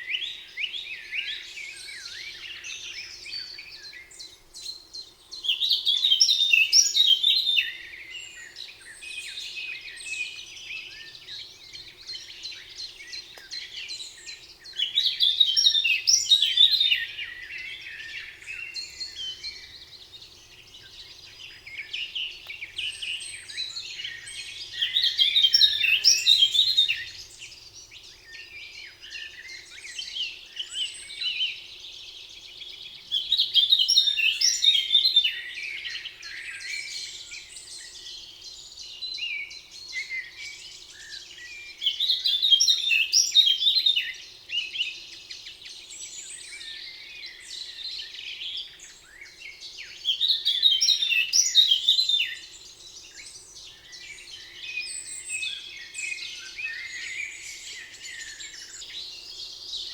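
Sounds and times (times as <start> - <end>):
chorus of songbirds singing: 0.0 - 59.9.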